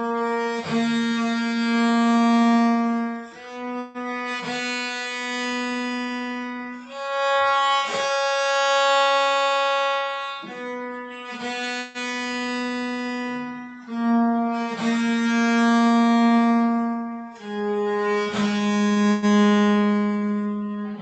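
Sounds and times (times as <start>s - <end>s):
bowed viol notes: 0.0s - 21.0s.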